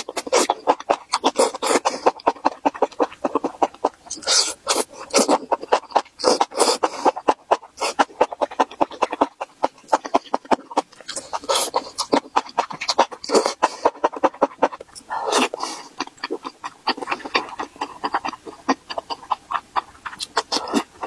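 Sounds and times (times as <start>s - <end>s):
slurping: 0.0s - 21.0s
wet crunching chewing: 0.0s - 21.0s.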